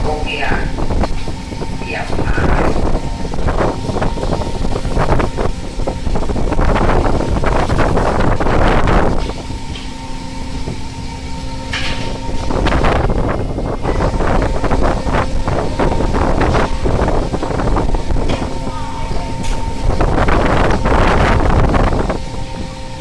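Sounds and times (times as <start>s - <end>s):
boat engine drone: 0.0s - 23.0s
wind and sea noise: 0.0s - 23.0s.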